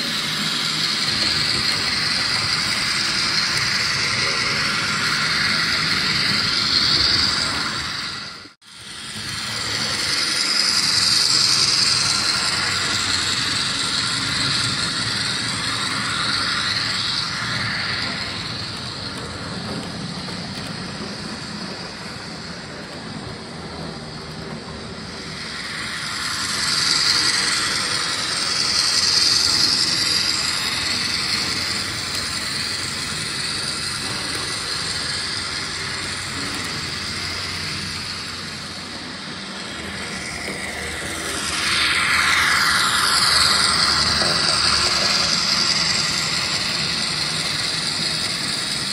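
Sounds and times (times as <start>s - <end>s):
model train running on track: 0.0s - 48.9s.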